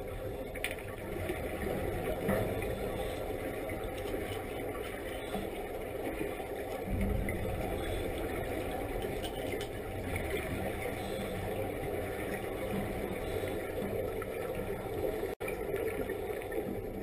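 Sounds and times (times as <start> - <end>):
low underwater rumble and hiss: 0.0 - 17.0.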